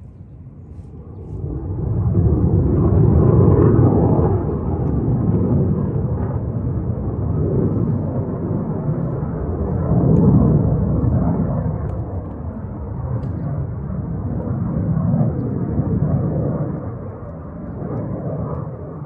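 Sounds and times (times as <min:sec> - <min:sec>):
jet engine rumbling: 0:00.0 - 0:19.0.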